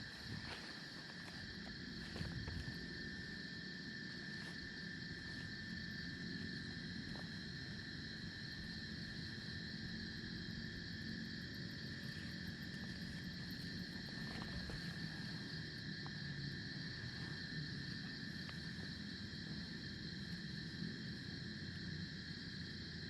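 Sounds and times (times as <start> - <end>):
crickets and insects chirring: 0.0 - 23.0.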